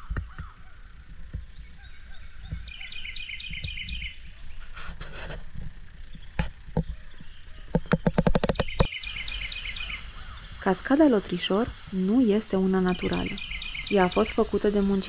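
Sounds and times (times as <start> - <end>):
songbird chirping phrase: 0.0 - 4.8, 6.0 - 15.0.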